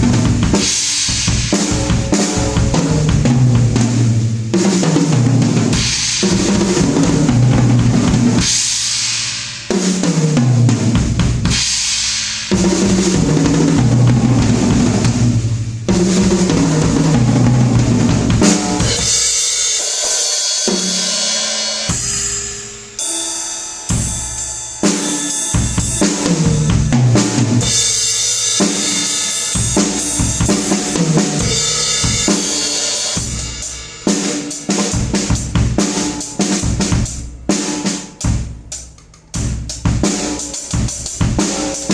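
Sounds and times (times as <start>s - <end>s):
loud music with drum kit: 0.0s - 41.9s.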